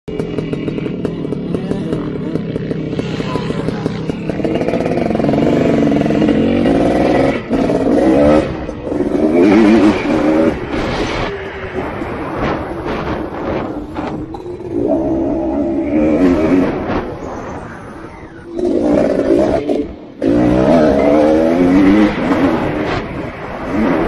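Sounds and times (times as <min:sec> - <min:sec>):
dirt bike engine revving: 0:00.1 - 0:24.0.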